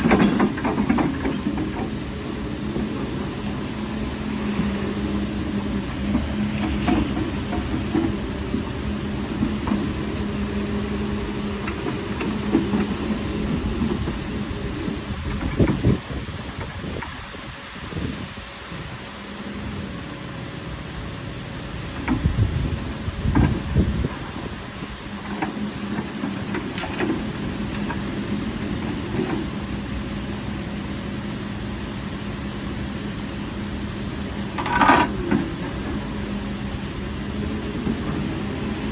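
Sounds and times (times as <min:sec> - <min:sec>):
excavator engine rumble: 0:00.0 - 0:38.9.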